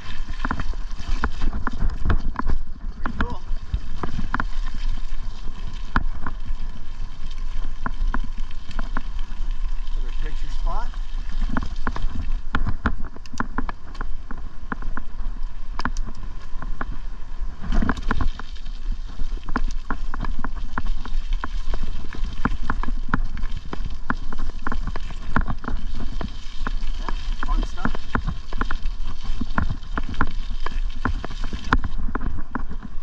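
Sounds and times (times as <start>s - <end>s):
bicycle clicks and rattles: 0.0s - 33.0s
wind rumbling on microphone: 0.0s - 33.0s.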